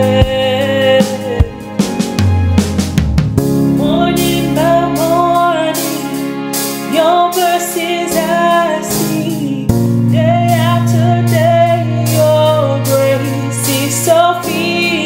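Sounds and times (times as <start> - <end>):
woman singing a gospel song: 0.0 - 1.8, 3.8 - 6.2, 6.9 - 15.0
backing track of held chords: 0.0 - 15.0.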